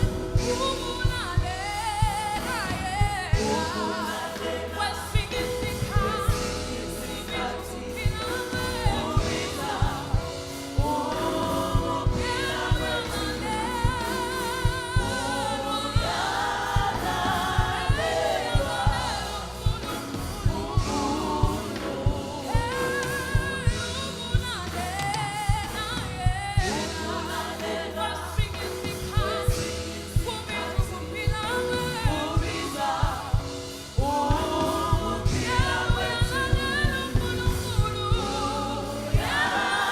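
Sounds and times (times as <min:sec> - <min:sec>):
choir singing: 0:00.0 - 0:25.6, 0:26.6 - 0:39.9
bass line: 0:00.0 - 0:39.9
steady drum beat: 0:00.0 - 0:39.9.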